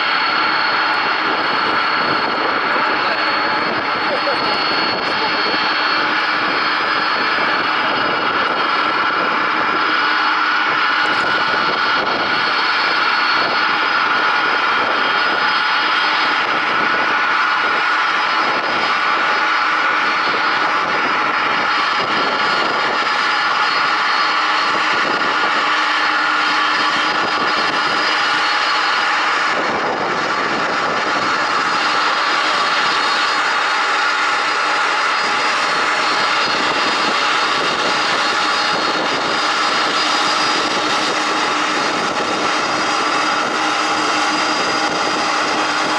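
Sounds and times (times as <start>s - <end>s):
high whining tones: 0.0s - 45.9s
jet engines running: 0.0s - 45.9s.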